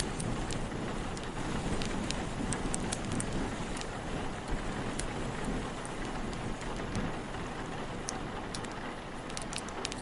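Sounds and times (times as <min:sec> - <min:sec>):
low wind rumble: 0:00.0 - 0:10.0
sharp ticks: 0:00.0 - 0:10.0
steady rain on a surface: 0:00.0 - 0:10.0.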